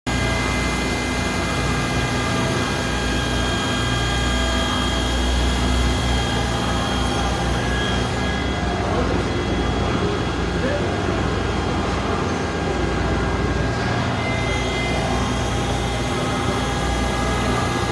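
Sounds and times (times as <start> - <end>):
high-pitched machine whines: 0.1 - 17.9
machine low mechanical hum: 0.1 - 17.9.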